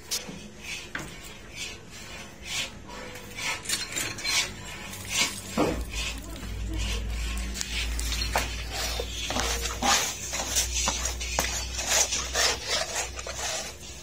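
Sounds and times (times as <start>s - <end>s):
low steady hum: 0.0s - 14.0s
plate scraping metal pan: 0.7s - 14.0s.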